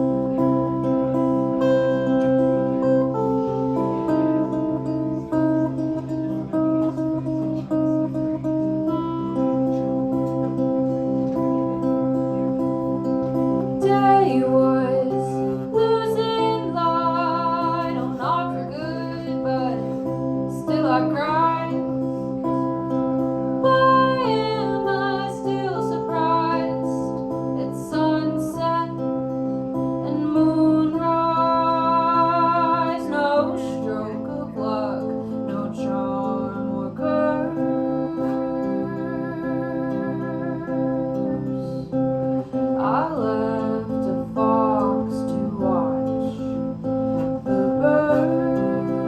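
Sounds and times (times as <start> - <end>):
acoustic guitar: 0.0 - 49.0
woman singing folk song: 0.0 - 49.0.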